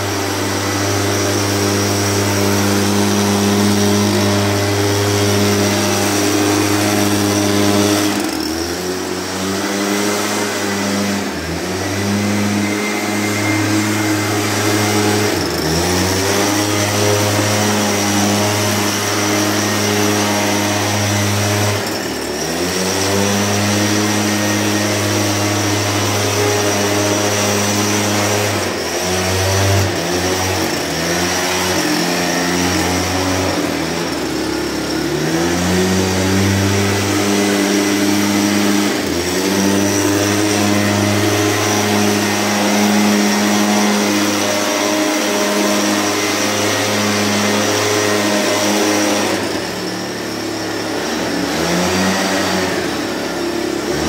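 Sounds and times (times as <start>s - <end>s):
mist blower engine running: 0.0s - 54.0s.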